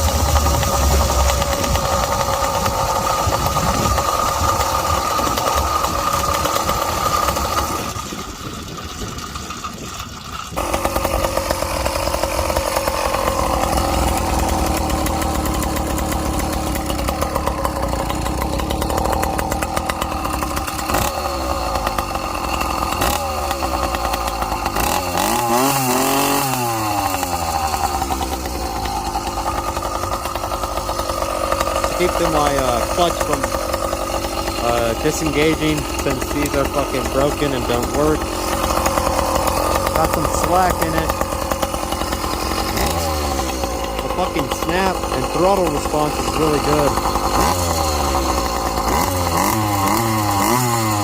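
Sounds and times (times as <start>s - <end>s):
two-stroke engine revving: 0.0s - 51.0s.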